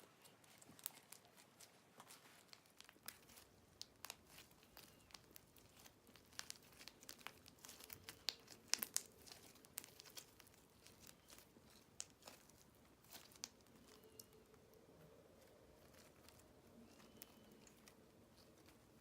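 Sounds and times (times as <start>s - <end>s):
slime crackling and snapping: 0.2s - 14.6s, 15.3s - 19.0s.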